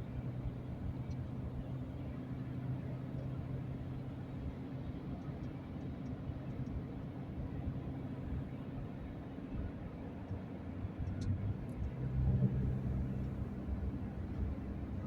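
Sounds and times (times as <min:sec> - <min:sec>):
car cabin road and engine drone: 0:00.0 - 0:15.0.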